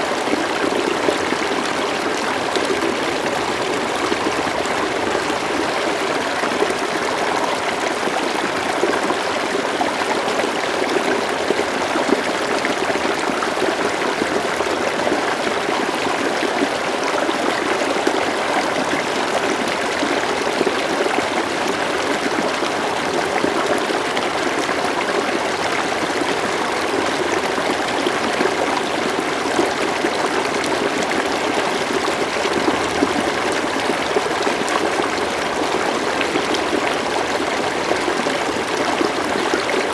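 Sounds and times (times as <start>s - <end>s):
river water burbling: 0.0s - 39.9s.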